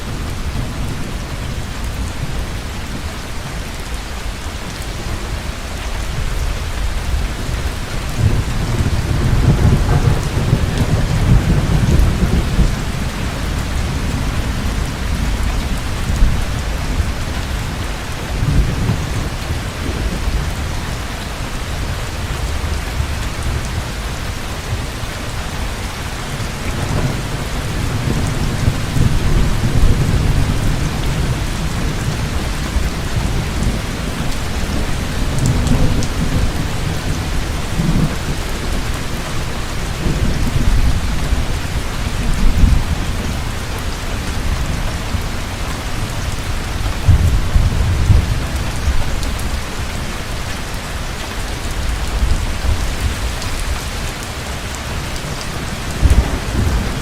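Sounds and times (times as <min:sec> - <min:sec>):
heavy rain falling: 0:00.0 - 0:57.0
low rolling thunder: 0:05.0 - 0:50.8, 0:51.6 - 0:57.0.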